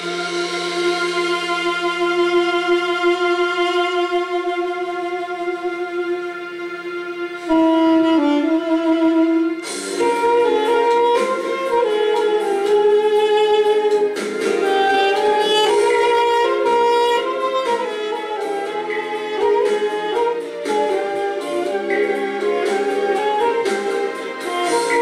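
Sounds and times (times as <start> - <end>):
duduk playing slow melody: 0.0 - 25.0.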